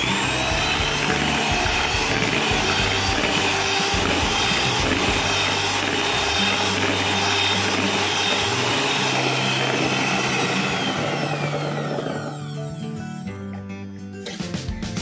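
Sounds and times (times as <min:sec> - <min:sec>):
electric hand mixer whirring: 0:00.0 - 0:13.3.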